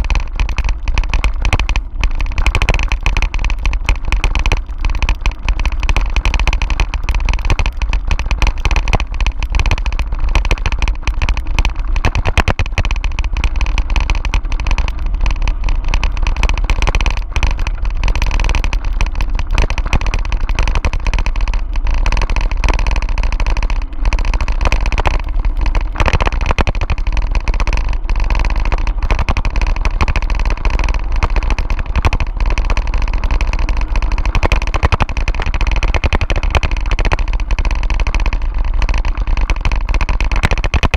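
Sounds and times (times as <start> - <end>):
bicycle rattling on gravel: 0.0 - 40.9
wind rumble on microphone: 0.0 - 40.9.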